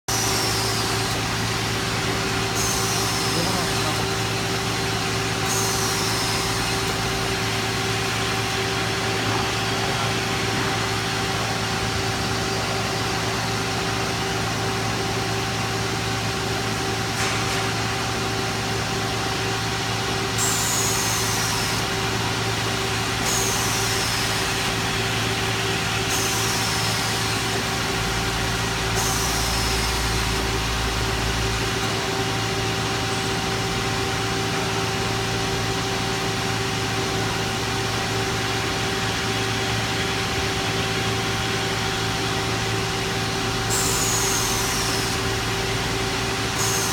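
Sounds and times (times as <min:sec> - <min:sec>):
machine motor hum: 0:00.1 - 0:46.9.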